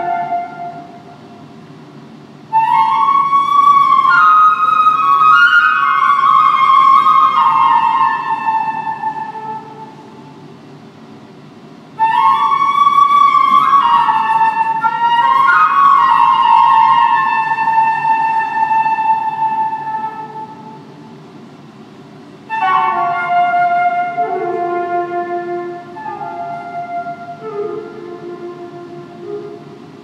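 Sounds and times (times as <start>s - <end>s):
solo flute playing: 0.0s - 1.5s, 2.5s - 10.5s, 12.0s - 21.0s, 22.4s - 30.0s.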